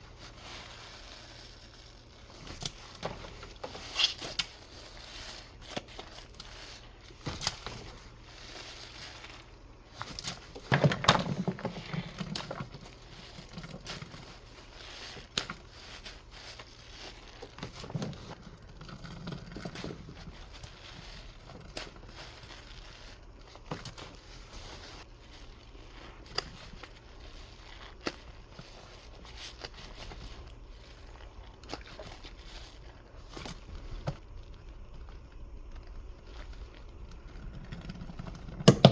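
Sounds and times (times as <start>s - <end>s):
soap suds squishing and popping: 0.0s - 38.9s.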